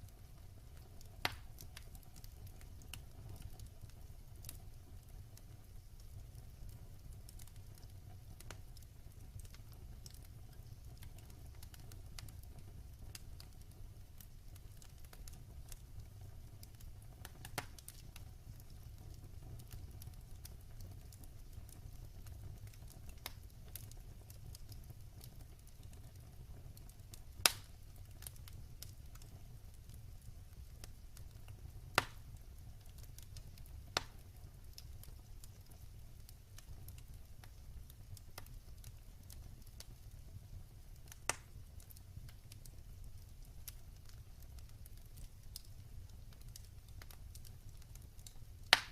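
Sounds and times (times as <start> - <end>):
wood fire crackling: 0.0 - 48.9
sharp pops of fire: 0.3 - 15.8, 16.6 - 26.3, 26.9 - 40.0, 41.0 - 48.9.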